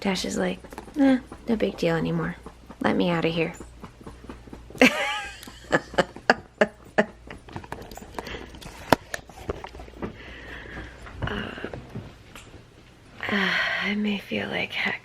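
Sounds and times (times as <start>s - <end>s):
dog claws clicking on hard floor: 0.1s - 12.6s.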